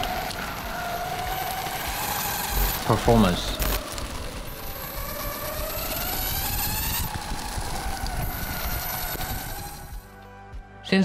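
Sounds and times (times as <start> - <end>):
electric motors whining: 0.0 - 10.0
steady rushing noise: 0.0 - 10.0.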